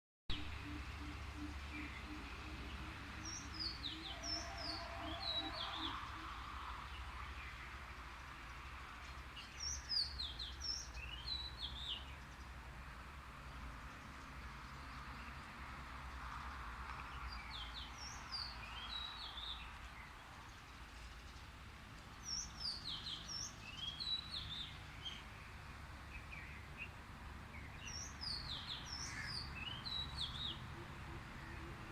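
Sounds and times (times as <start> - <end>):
birds chirping: 0.3 - 12.6, 16.9 - 31.9.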